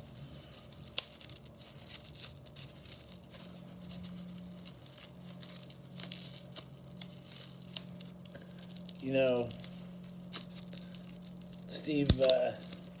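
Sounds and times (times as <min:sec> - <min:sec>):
low steady hum: 0:00.0 - 0:13.0
packaging rustling and crinkling: 0:00.0 - 0:13.0.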